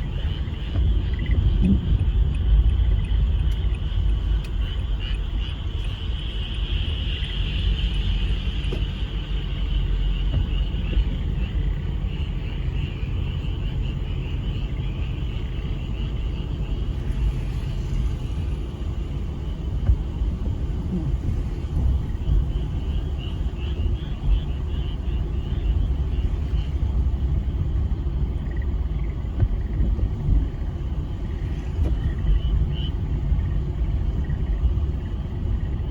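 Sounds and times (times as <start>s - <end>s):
frogs calling in chorus: 0.0s - 17.3s, 20.9s - 30.0s, 30.9s - 35.9s
steady low rumble: 0.0s - 35.9s.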